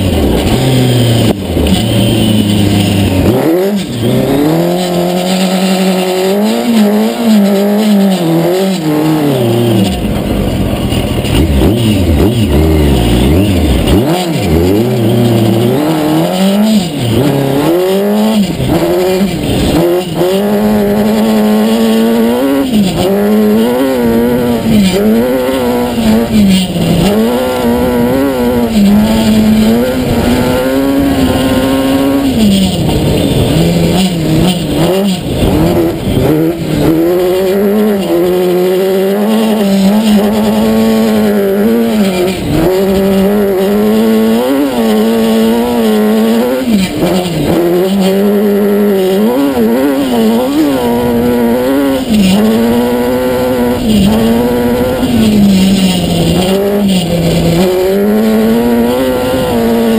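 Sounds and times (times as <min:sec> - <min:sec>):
motorcycle engine revving hard: 0:00.0 - 0:59.9.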